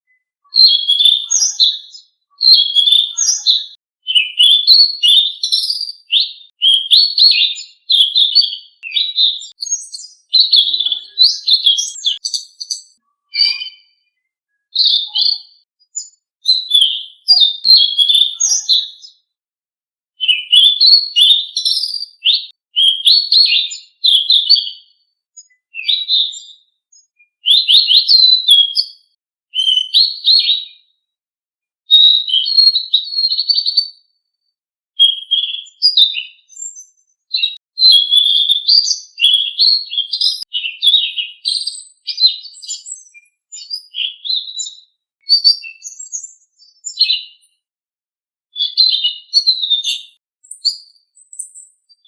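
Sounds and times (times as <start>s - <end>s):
songbird chirping and trilling: 0.1s - 19.4s, 20.2s - 30.9s, 31.9s - 34.2s, 35.0s - 47.6s, 48.6s - 52.0s.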